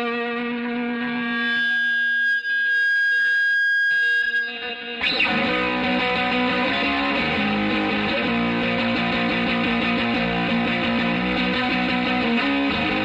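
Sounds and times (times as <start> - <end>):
distorted electric guitar chords: 0.0 - 2.8, 4.4 - 13.0.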